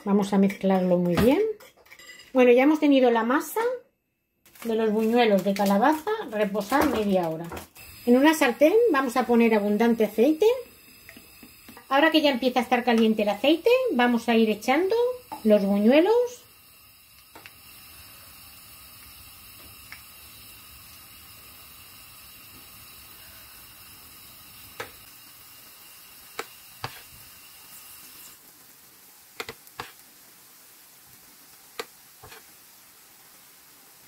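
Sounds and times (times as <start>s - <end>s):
hot oil sizzling in frying pan: 4.5s - 34.0s.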